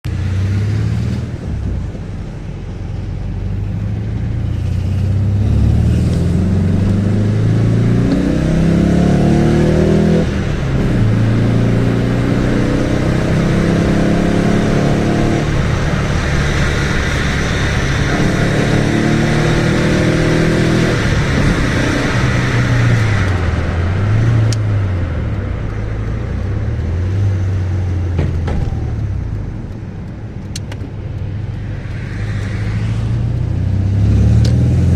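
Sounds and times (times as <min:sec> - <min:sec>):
car engine accelerating through gears: 0:02.9 - 0:34.9.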